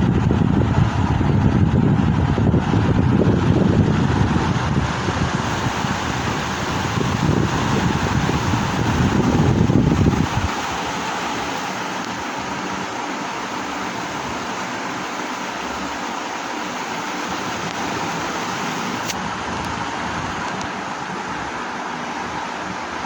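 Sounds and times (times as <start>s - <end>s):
ceiling fan air rush: 0.0s - 23.0s
faint motor hum: 0.0s - 23.0s.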